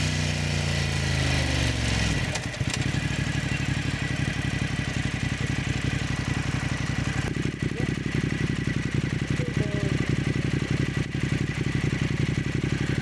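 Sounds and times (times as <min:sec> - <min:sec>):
motorcycle engine idling: 0:00.0 - 0:13.0
motorcycle engine revving down: 0:00.0 - 0:13.0.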